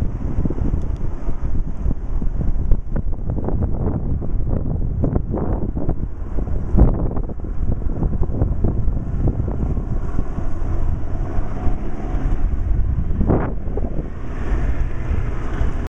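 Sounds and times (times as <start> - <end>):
helicopter rumble: 0.0 - 15.9
wind buffeting microphone: 0.0 - 15.9.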